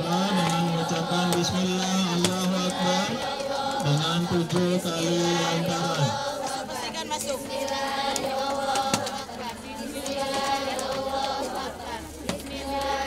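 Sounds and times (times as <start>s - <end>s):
group chanting a prayer: 0.0s - 13.0s.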